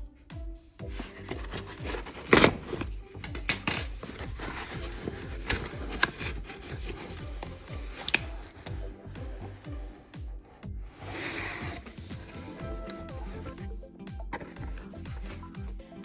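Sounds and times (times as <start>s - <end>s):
electronic music with beat: 0.0s - 16.0s.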